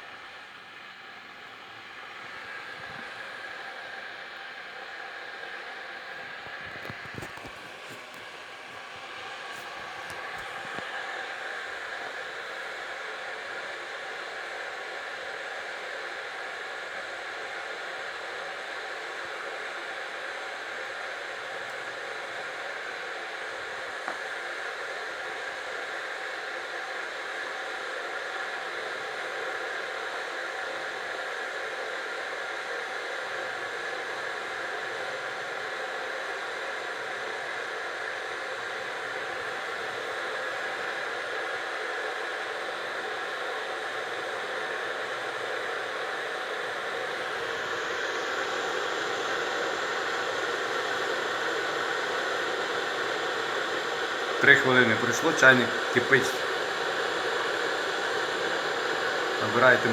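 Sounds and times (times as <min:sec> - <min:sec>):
electric kettle hissing: 0:00.0 - 0:59.9.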